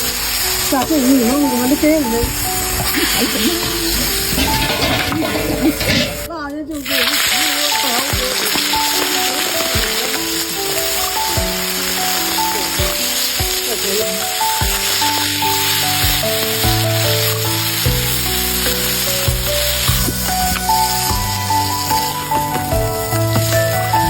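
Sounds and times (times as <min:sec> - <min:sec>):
background music: 0:00.0 - 0:24.0
food sizzling in a hot pan: 0:00.0 - 0:24.0.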